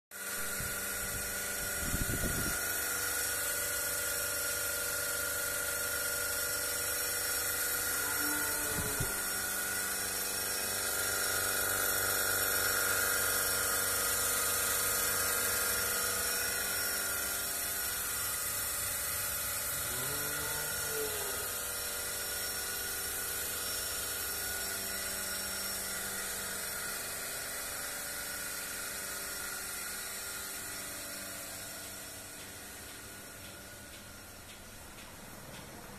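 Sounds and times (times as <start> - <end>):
vacuum pump whining: 0.2 - 34.3.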